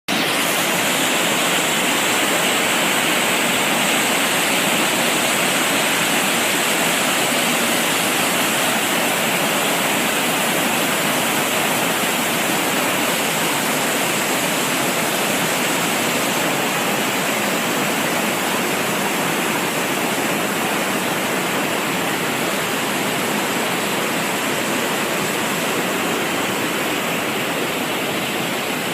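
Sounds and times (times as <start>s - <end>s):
water rushing and falling: 0.1s - 28.9s.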